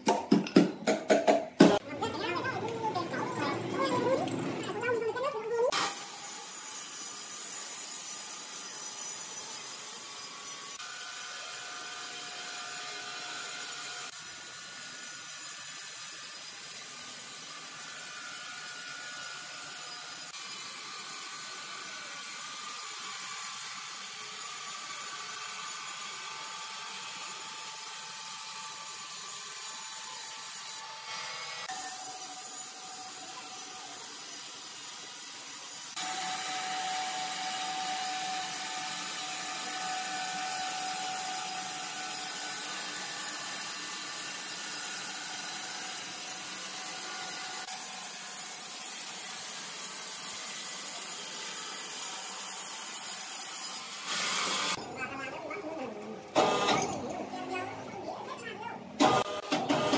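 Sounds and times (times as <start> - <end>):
band saw cutting log: 5.7 - 54.8.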